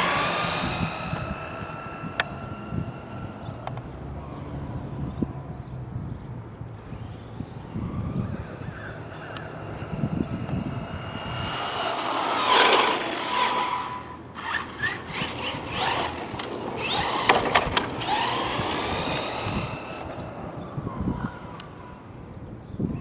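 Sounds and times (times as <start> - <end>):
electric motor whining: 0.0 - 5.4, 6.9 - 22.2.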